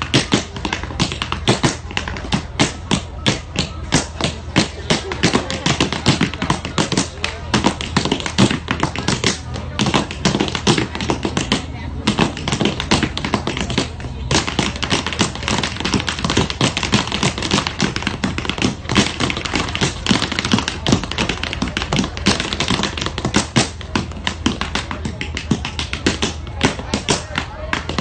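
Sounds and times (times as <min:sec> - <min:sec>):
tap shoes clicking on floor: 0:00.0 - 0:28.0.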